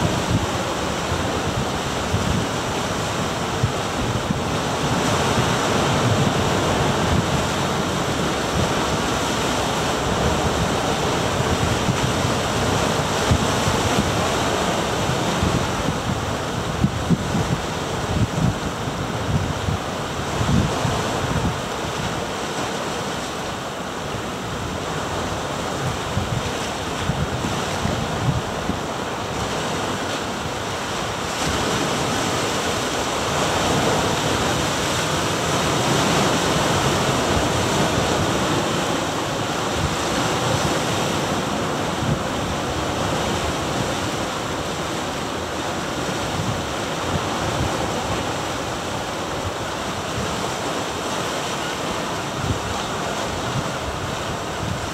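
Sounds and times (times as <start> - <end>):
wind buffeting microphone: 0.0 - 22.4, 24.2 - 54.9
surf washing over rocks: 0.0 - 54.9.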